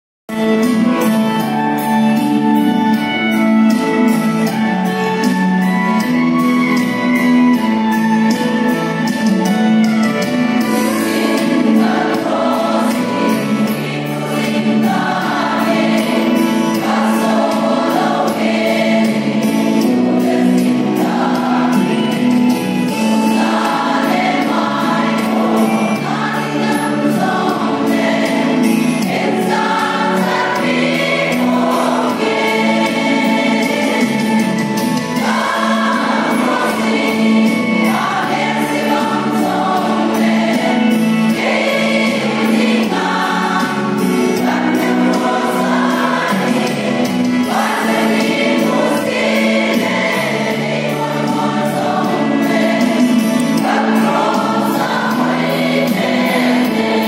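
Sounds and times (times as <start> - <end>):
women's choir singing a hymn: 10.6 - 57.0.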